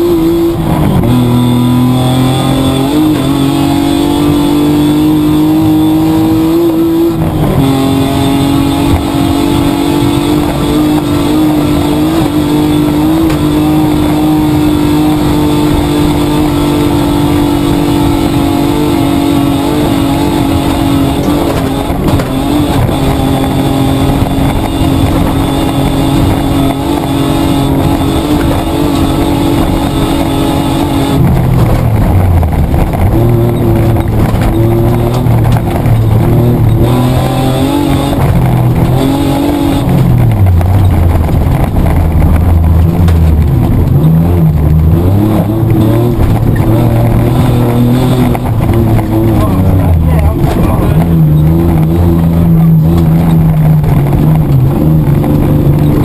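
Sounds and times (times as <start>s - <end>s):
car engine running hard: 0.0s - 56.0s.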